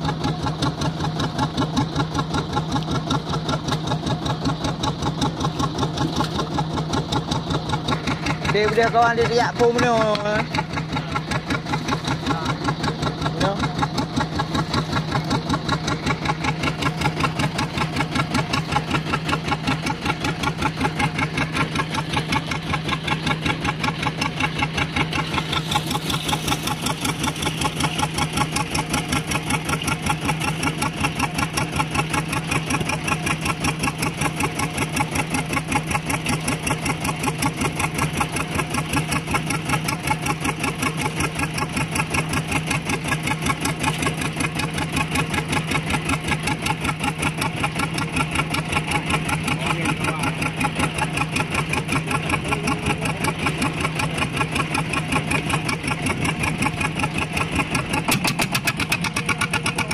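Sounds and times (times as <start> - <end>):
boat engine idling: 0.0 - 59.9.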